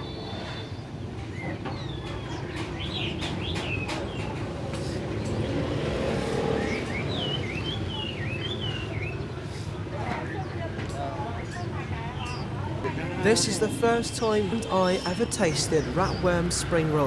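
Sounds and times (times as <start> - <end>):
songbird chirping: 0.0 - 17.0
street traffic hum: 0.0 - 17.0.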